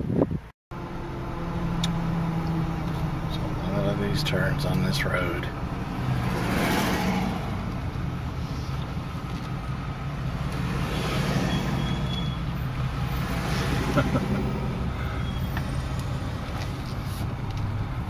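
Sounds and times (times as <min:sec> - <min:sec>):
tyre road noise: 0:00.0 - 0:18.0
engine hum inside vehicle: 0:00.7 - 0:18.0.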